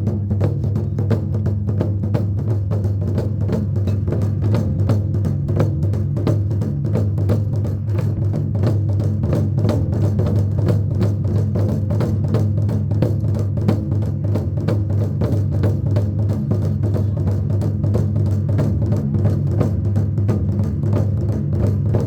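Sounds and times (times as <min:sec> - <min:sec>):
drums beaten fast: 0:00.0 - 0:22.0.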